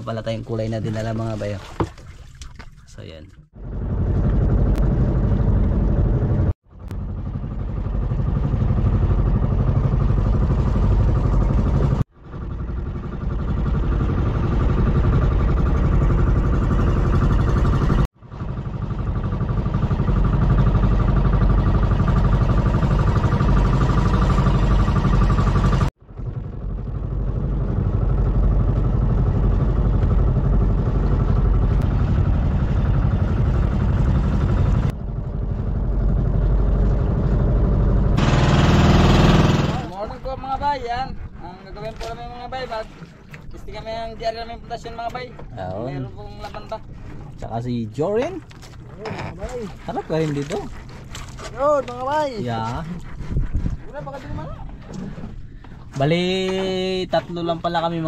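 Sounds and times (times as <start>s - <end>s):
boat engine running: 2.6s - 58.0s.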